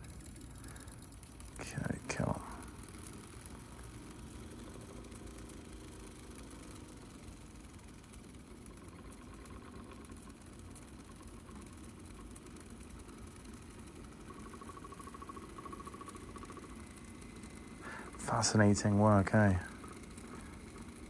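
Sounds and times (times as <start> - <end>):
tape cleaning machine humming: 0.0 - 21.0.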